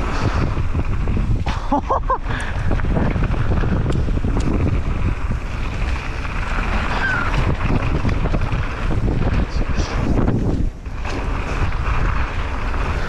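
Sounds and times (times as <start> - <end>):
bike clicks and knocks: 0.0 - 13.0
tyres running over dirt trail: 0.0 - 13.0
wind buffeting microphone: 0.0 - 13.0.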